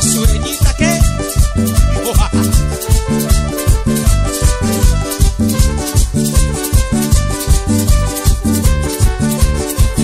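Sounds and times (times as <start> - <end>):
latin dance music: 0.0 - 10.0
shaker rattling: 0.0 - 10.0.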